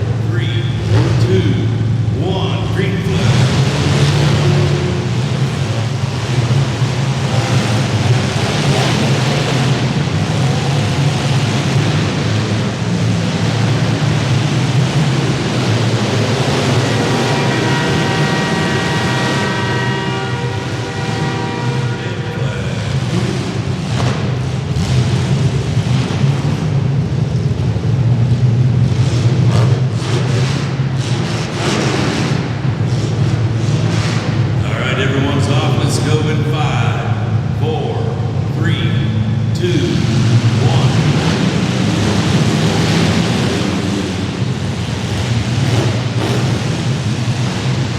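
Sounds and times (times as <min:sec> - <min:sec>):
car engines running hard: 0:00.0 - 0:47.9.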